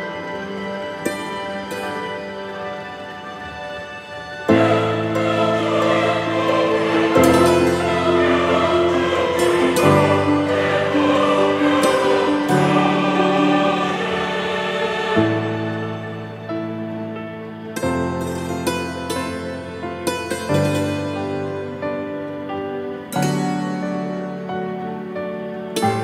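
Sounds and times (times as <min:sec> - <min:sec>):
slow sustained music chords: 0:00.0 - 0:26.0.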